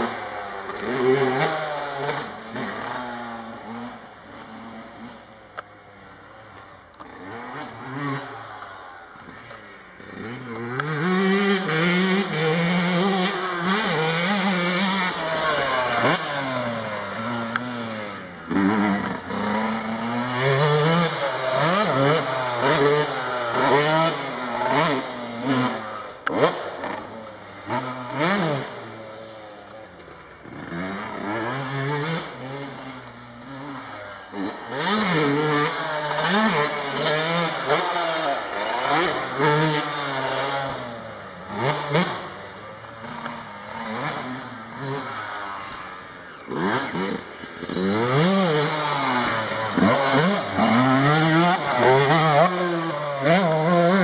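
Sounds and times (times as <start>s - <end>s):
motocross bike revving: 0.0s - 54.0s.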